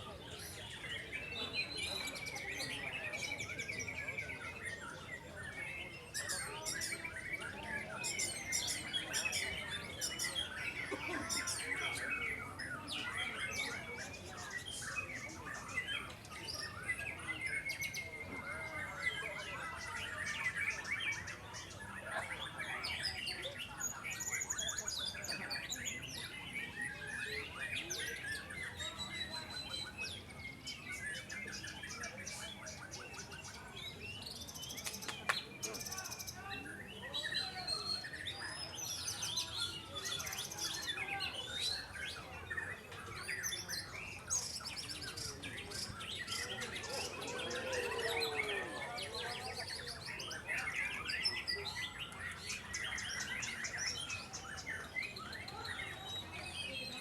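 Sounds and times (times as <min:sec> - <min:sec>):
birds singing in chorus: 0:00.0 - 0:57.0.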